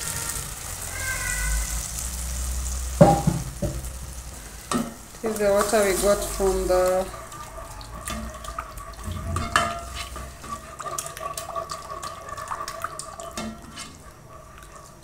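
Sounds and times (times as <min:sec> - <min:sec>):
sauce bubbling and sizzling in pot: 0:00.0 - 0:15.0.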